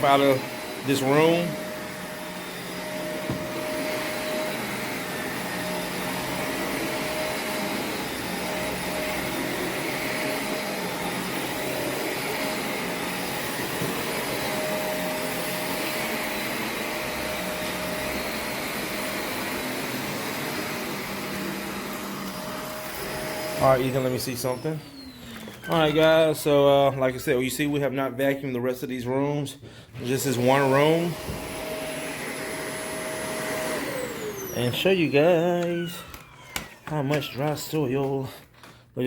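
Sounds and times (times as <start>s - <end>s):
vacuum cleaner whining: 0.0s - 39.0s.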